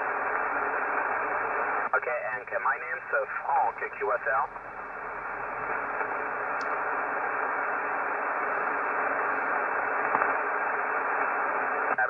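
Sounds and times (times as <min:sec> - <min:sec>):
shortwave radio static hiss: 0:00.0 - 0:12.0.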